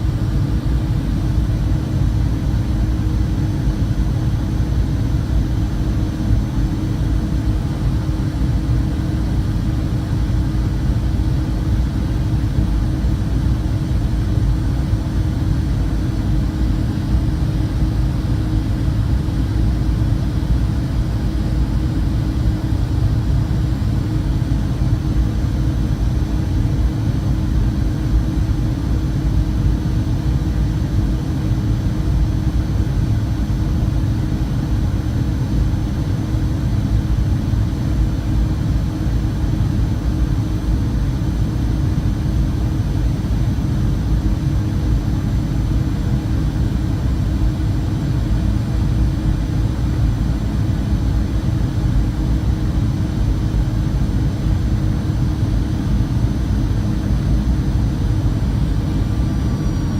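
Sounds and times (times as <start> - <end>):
faint high whine: 0.0 - 59.9
jet engine and airflow rumble: 0.0 - 59.9.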